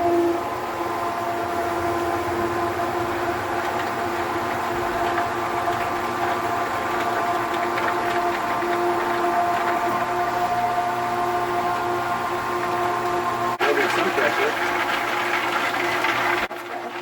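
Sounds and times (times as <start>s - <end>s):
electric water pump whining hum: 0.0s - 17.0s.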